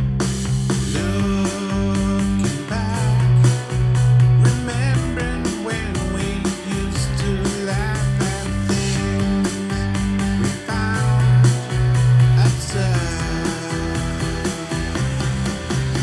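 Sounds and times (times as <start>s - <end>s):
music through studio monitors: 0.0s - 16.0s.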